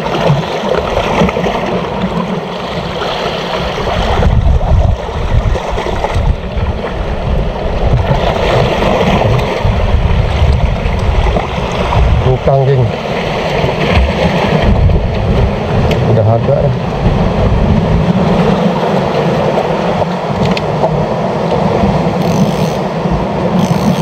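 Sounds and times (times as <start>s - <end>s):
water washing around rocks: 0.0s - 24.0s
wind on microphone: 0.0s - 24.0s.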